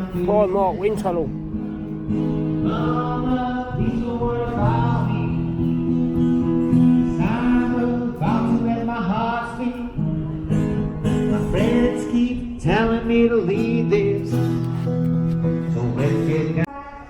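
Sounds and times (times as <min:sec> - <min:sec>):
guitar accompaniment: 0:00.0 - 0:17.0.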